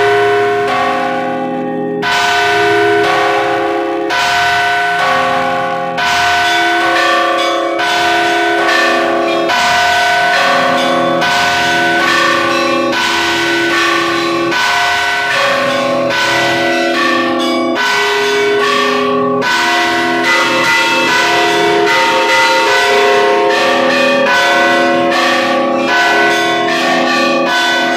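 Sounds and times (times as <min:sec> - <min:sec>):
heavy church bell strokes: 0:00.0 - 0:27.9
smaller bells ringing: 0:00.0 - 0:27.9.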